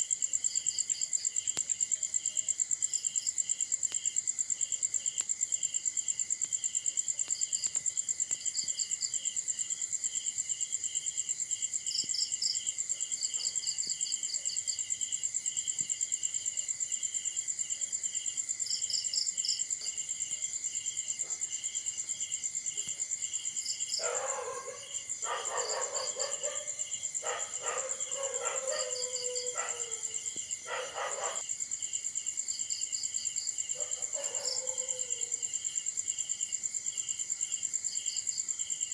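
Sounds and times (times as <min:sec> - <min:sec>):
insects chirping: 0:00.0 - 0:38.9
crickets trilling: 0:00.1 - 0:38.8.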